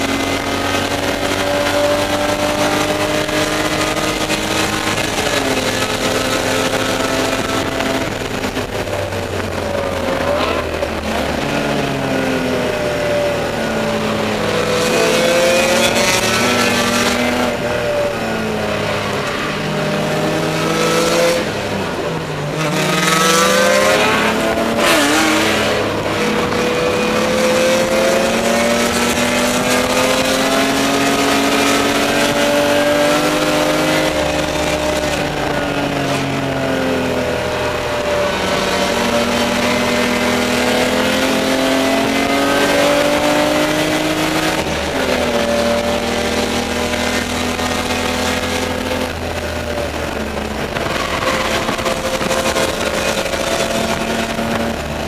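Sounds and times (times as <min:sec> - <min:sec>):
race car engine: 0:00.0 - 0:55.0.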